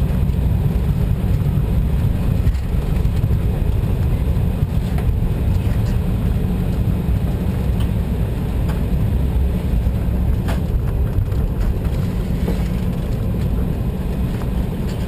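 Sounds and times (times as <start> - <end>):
airliner rolling on runway: 0.0 - 15.0.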